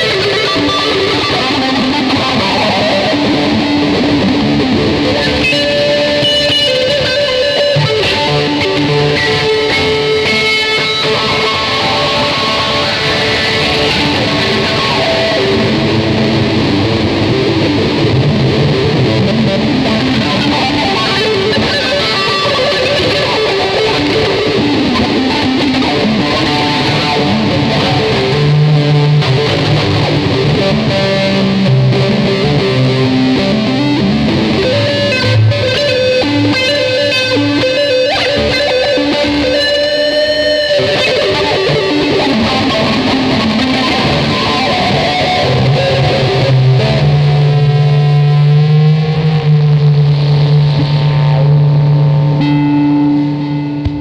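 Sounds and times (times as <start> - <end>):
electric guitar strumming and picking: 0.0 - 54.0.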